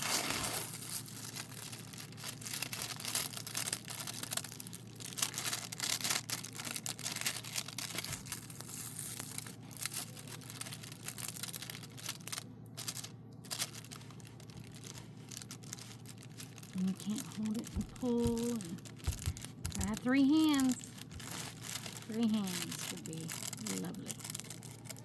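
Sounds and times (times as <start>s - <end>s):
plastic sheet crinkling: 0.0s - 25.0s.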